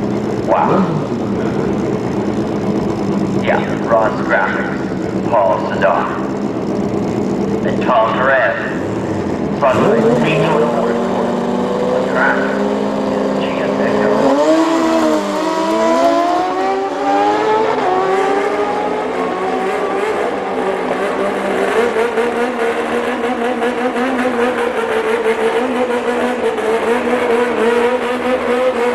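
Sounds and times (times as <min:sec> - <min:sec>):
motorcycle engines revving high: 0:00.0 - 0:28.9.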